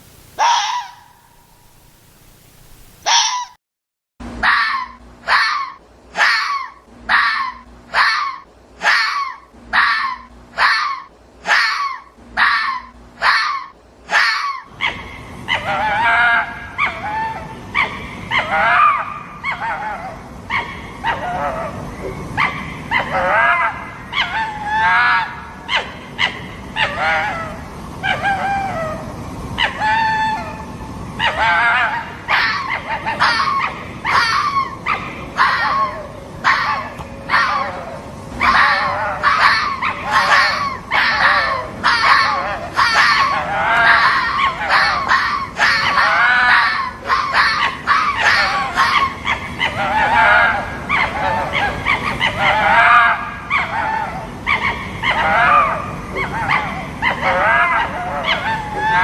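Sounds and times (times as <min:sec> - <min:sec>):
fox yips and whines: 0:00.4 - 0:01.8, 0:02.7 - 0:03.6, 0:04.4 - 0:59.0.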